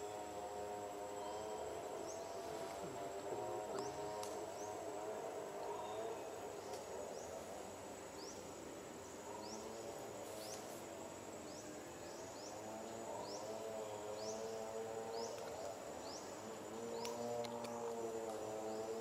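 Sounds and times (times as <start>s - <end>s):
high insect whine: 0.0s - 19.0s.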